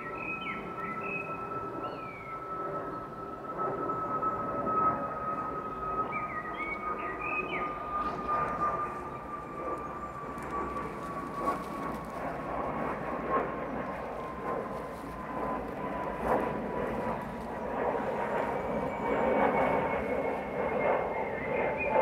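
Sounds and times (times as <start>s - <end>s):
airliner engine rushing: 0.0s - 22.0s
high engine whine: 0.0s - 22.0s.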